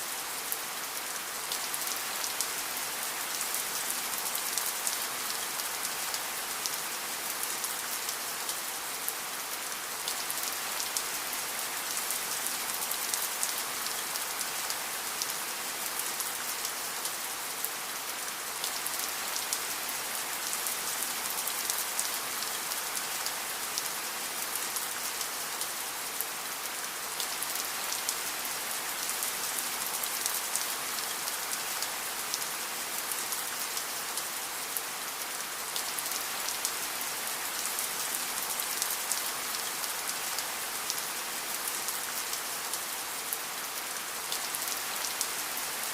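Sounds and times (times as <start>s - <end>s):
steady rain patter: 0.0s - 45.9s.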